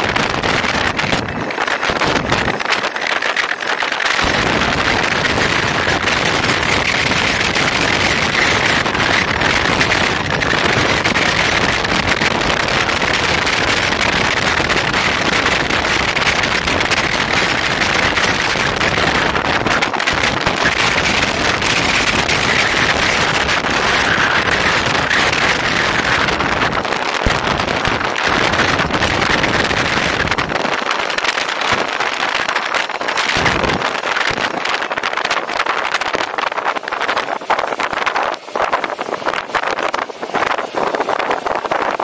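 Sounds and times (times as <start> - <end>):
rolling road noise: 0.0 - 42.0
wind on microphone: 0.0 - 42.0.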